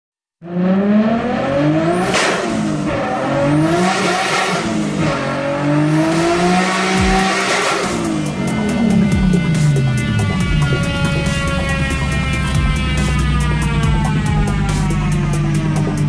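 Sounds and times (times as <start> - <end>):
car engine revving hard: 0.4 - 16.0.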